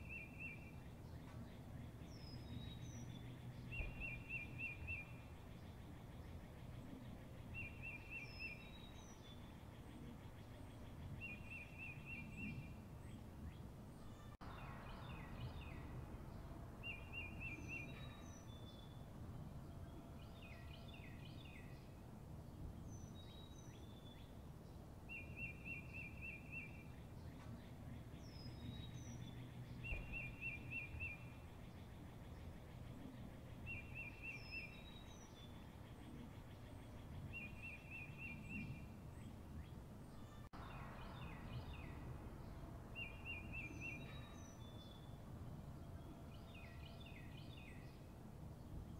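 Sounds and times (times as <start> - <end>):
birdsong: 0.0 - 48.9.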